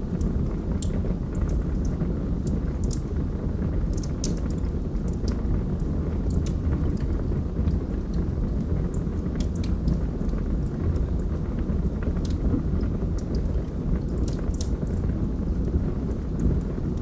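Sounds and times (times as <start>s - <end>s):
fire flames burning: 0.0s - 17.0s
wood crackling and popping: 0.0s - 17.0s.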